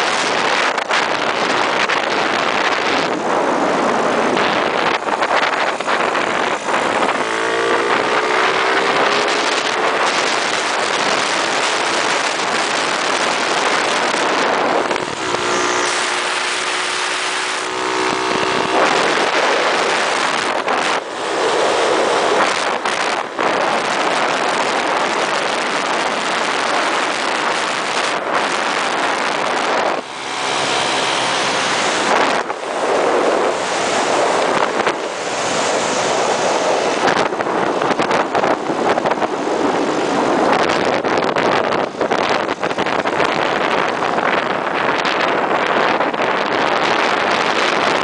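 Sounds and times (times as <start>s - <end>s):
scooter engine: 0.0s - 44.3s
wind rushing over microphone: 0.0s - 48.0s.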